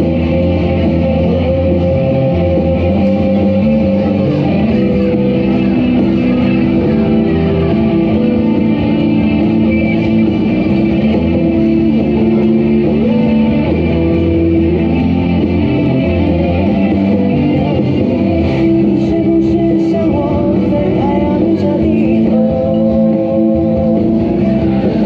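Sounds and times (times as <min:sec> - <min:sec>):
guitar-led instrumental music: 0:00.0 - 0:25.0.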